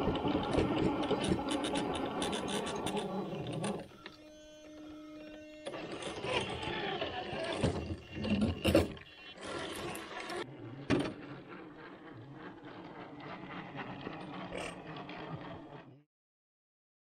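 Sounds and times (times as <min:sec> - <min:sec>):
toy car electric motor running: 0:00.0 - 0:16.0.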